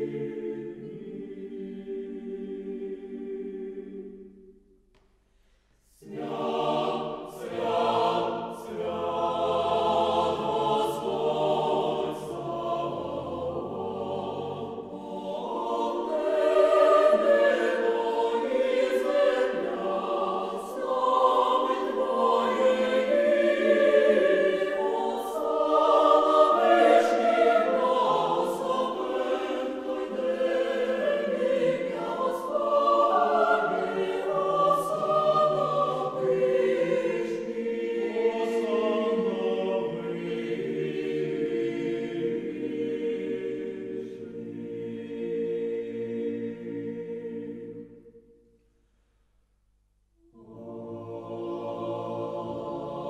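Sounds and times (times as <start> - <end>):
choir singing a cappella: 0.0 - 4.6, 5.9 - 48.4, 50.2 - 53.0.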